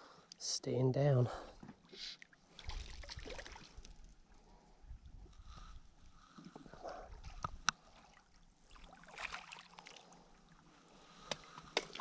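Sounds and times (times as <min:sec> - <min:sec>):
faint water splashing and lapping: 0:01.4 - 0:12.0.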